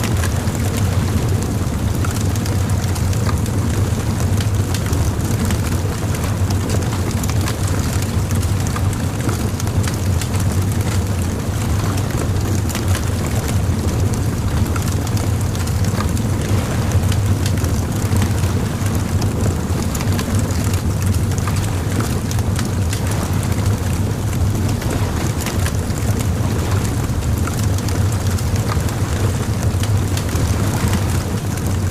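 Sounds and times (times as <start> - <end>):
bonfire crackling: 0.0 - 31.9
burning wood popping: 0.1 - 31.9.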